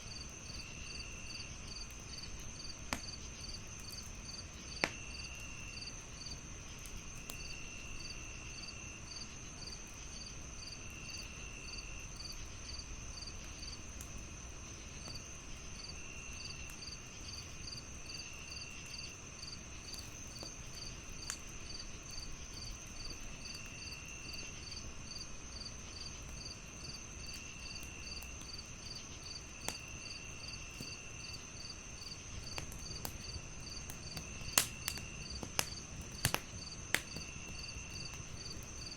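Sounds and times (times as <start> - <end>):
crickets chirping: 0.0 - 38.9
fireplace crackling: 0.0 - 38.9.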